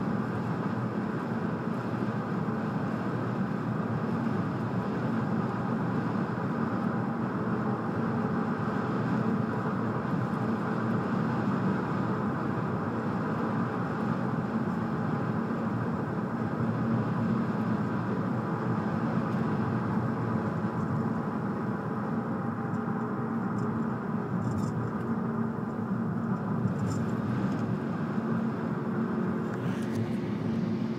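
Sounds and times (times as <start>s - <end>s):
tyres on road: 0.0s - 30.9s
car engine running: 5.2s - 30.9s.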